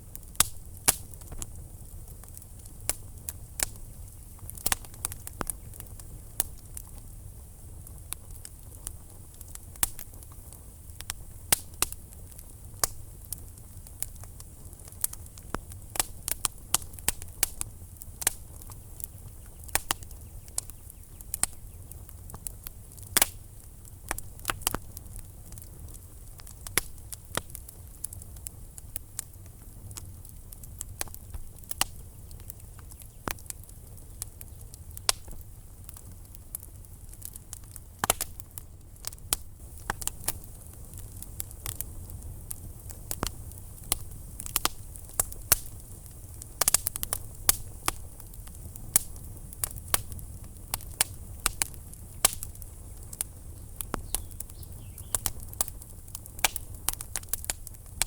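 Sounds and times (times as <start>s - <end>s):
flames rumbling: 0.0s - 58.0s
wood fire crackling: 0.0s - 58.0s.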